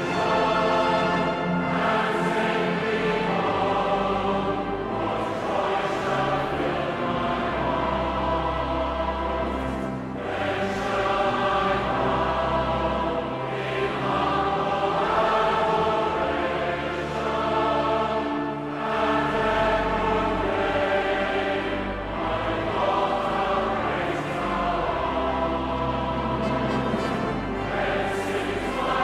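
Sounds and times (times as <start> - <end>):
choir singing a hymn: 0.0 - 29.0
sustained low accompanying notes: 0.0 - 29.0.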